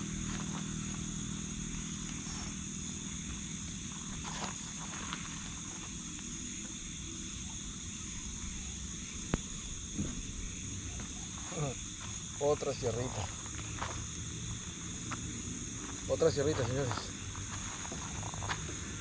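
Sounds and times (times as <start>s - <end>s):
night insects chorus: 0.0s - 19.0s.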